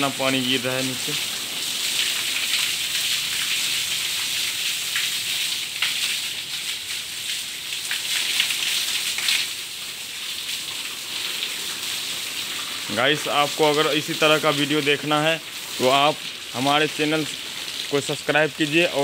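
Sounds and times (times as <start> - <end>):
water jet spraying and splashing: 0.0 - 19.0.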